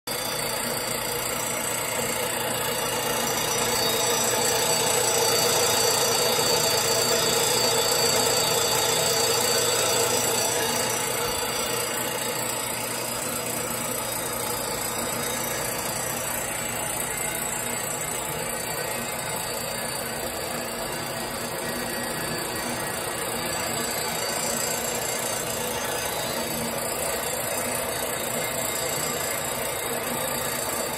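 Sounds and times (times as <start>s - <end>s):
band saw cutting steel: 0.2s - 30.9s.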